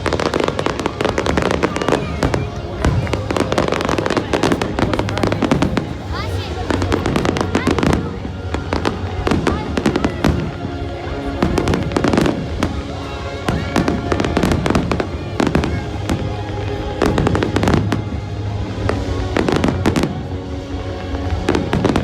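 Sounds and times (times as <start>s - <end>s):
fireworks bursting: 0.0s - 18.0s
music playing: 0.0s - 22.0s.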